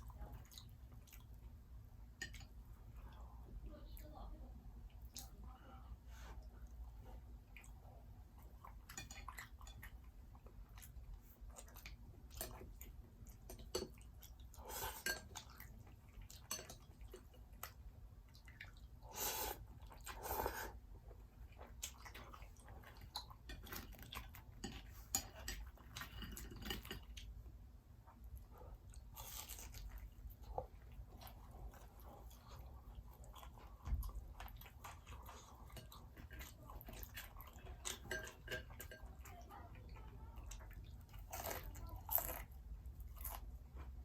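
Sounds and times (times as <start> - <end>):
soft chewing: 0.0 - 44.0.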